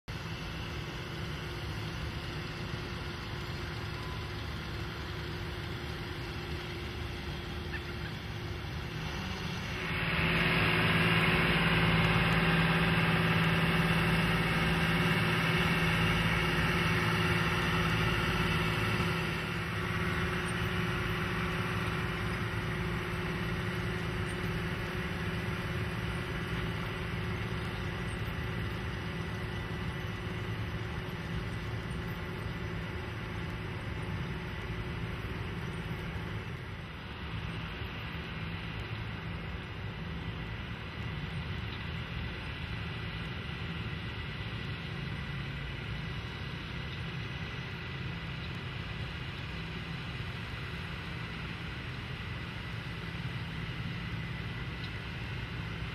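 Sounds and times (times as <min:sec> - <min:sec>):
steady mechanical hum: 0:00.0 - 0:55.9.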